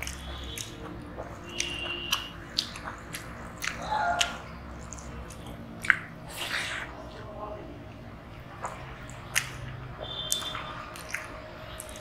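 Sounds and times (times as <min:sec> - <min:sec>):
person chewing with mouth clicks: 0:00.0 - 0:07.0, 0:08.6 - 0:12.0.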